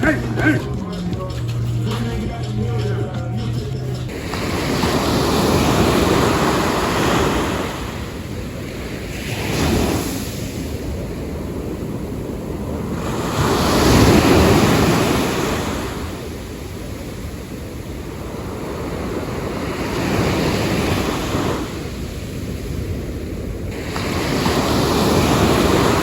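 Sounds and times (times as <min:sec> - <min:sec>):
sea waves washing onto shore: 0:04.1 - 0:26.0.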